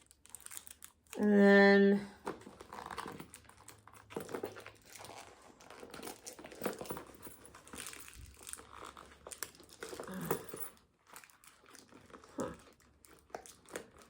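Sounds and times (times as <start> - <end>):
wrapping rustling and crinkling: 0.0 - 1.4, 2.0 - 14.0.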